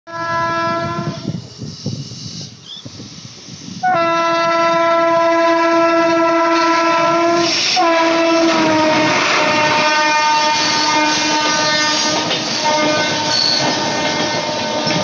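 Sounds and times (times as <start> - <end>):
locomotive horn blasts: 0.1 - 1.3, 3.8 - 15.0
train rumbling along rails: 0.1 - 15.0.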